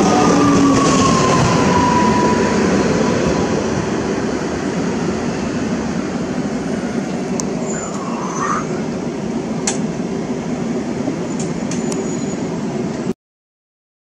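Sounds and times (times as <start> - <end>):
train running low rumble: 0.0 - 13.1.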